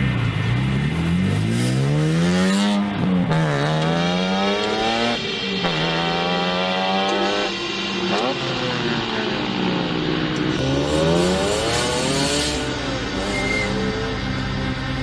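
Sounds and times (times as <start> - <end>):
car engine accelerating through gears: 0.0 - 15.0.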